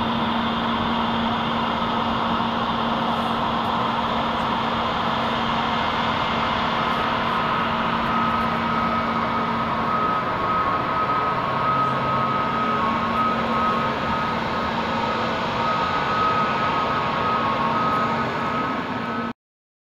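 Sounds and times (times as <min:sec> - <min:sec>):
jet engines humming: 0:00.0 - 0:19.3
jet engine whine: 0:00.0 - 0:19.4.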